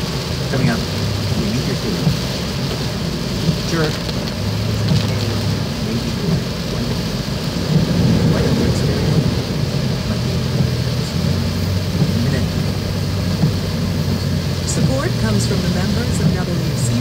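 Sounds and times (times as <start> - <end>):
car engine humming low: 0.0 - 17.0
heavy rain on car roof: 0.0 - 17.0.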